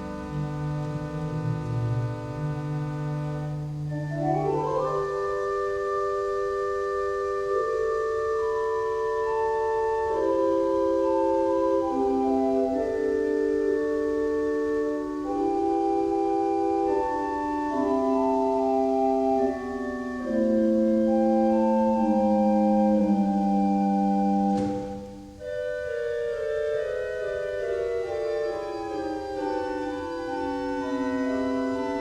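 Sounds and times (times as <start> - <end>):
organ playing chords: 0.0 - 32.0.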